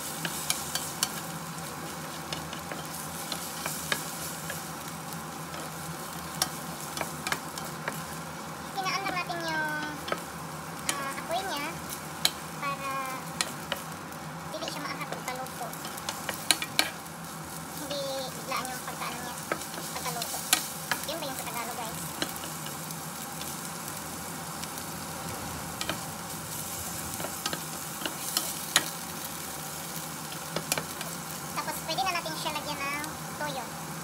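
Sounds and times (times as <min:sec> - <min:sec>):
shrimp sizzling in hot oil: 0:00.0 - 0:34.0.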